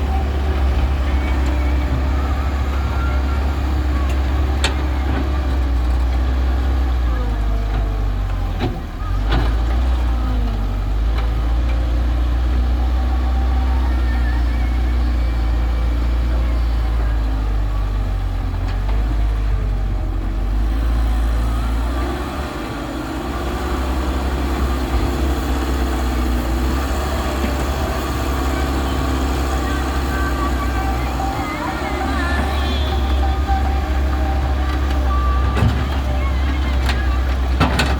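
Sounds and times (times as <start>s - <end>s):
diesel engines running: 0.0s - 37.9s.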